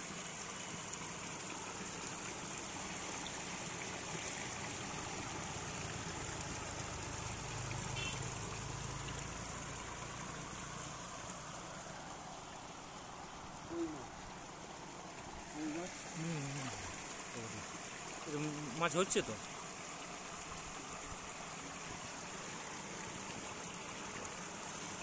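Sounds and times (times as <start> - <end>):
water pouring and splashing: 0.0 - 25.0.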